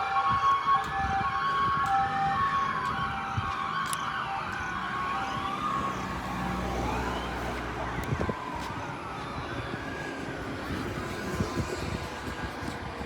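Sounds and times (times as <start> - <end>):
hi-lo fire truck siren: 0.0 - 13.0
wailing sirens: 0.0 - 13.0.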